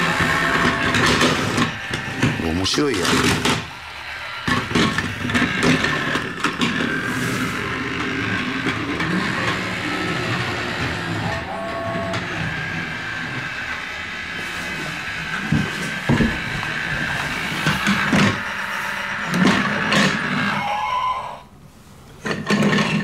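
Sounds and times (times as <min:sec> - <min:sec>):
toy train motor whirring: 0:00.0 - 0:21.5.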